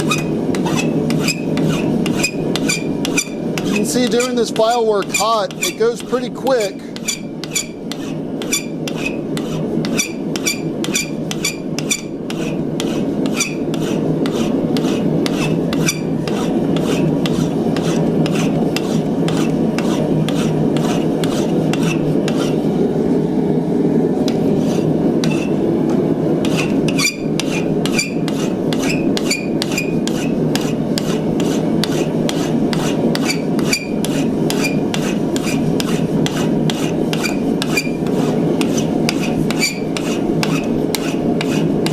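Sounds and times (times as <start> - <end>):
file rasping on steel: 0.0 - 22.6, 24.3 - 25.6, 26.4 - 41.9.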